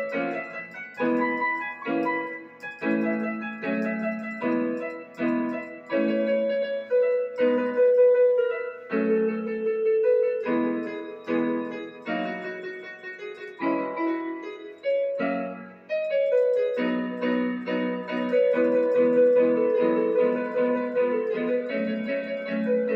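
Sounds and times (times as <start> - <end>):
electronic keyboard piano piece: 0.0 - 22.9.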